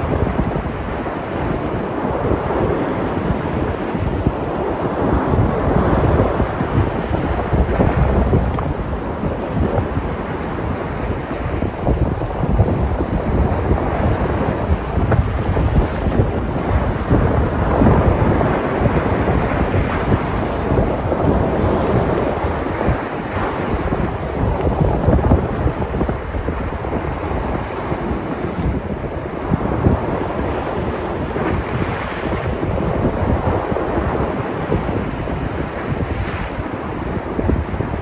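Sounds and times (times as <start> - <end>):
surf breaking on shore: 0.0 - 38.0
wind rumble on microphone: 0.0 - 38.0.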